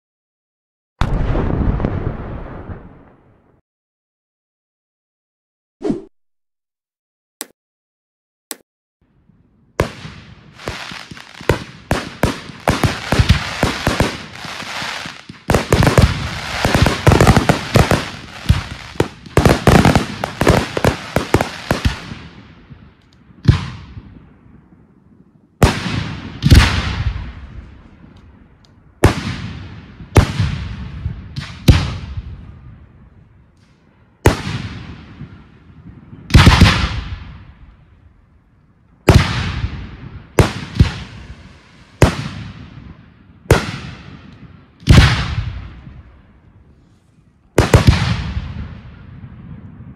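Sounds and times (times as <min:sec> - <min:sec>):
fireworks bangs and crackling: 0:01.0 - 0:03.3, 0:09.2 - 0:24.9, 0:25.6 - 0:33.6, 0:34.2 - 0:38.2, 0:39.0 - 0:46.8, 0:47.4 - 0:49.9.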